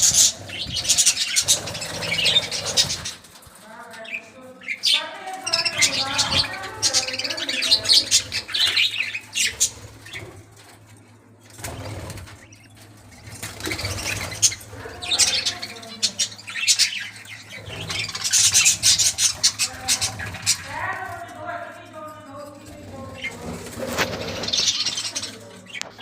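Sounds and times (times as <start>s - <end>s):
wing flutters: 0.0s - 3.7s, 5.6s - 21.4s, 22.6s - 26.0s
budgerigars chirping and chattering: 0.0s - 26.0s.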